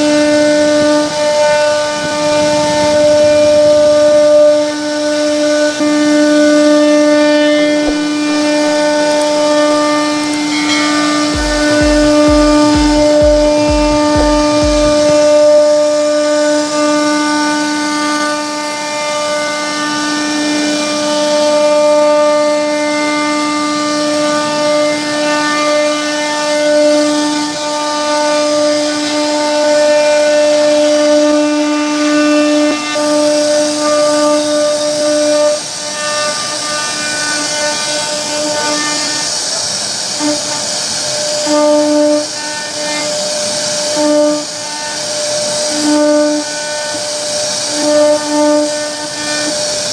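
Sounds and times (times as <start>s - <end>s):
hiss of wood cutting: 0.0s - 49.9s
router spindle whining: 0.0s - 49.9s.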